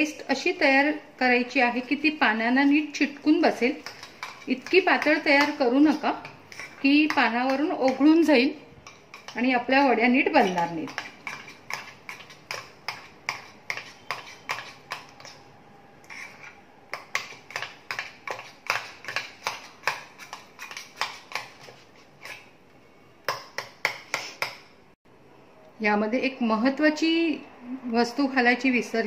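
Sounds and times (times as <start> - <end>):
spoon stirring thick batter: 0.2 - 24.8.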